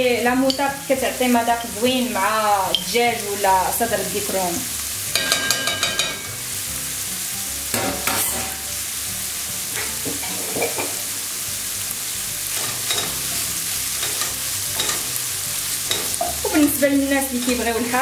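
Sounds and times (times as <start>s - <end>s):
chicken and onion sizzling in pan: 0.0s - 18.0s.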